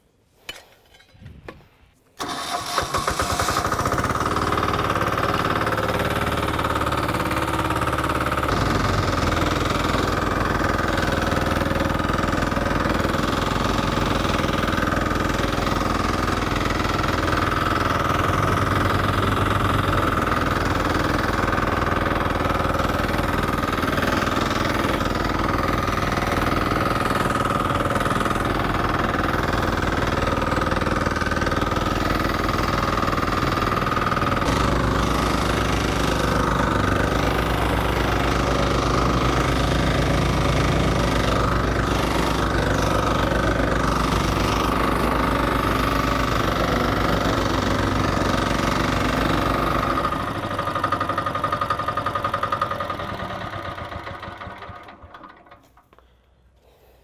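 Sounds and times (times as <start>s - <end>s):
vibratory roller engine running: 2.2s - 55.7s.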